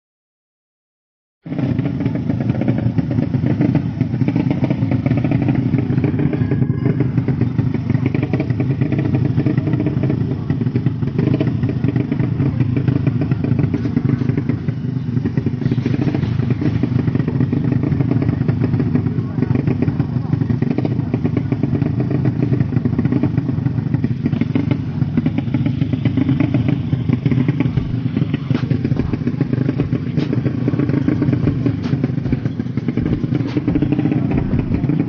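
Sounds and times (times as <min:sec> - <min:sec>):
motorcycle engine running: 0:01.4 - 0:35.0.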